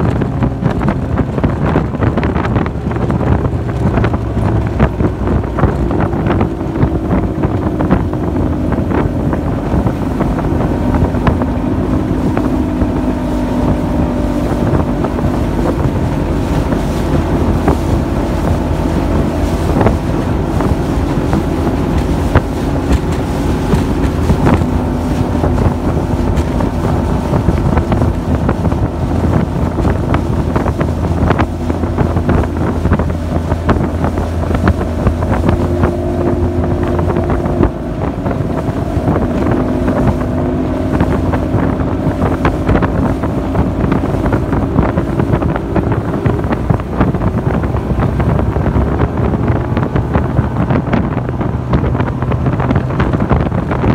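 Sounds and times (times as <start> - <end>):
hull knocking on waves: 0.0 - 53.9
outboard engine drone: 0.0 - 53.9
wind noise on microphone: 0.0 - 53.9.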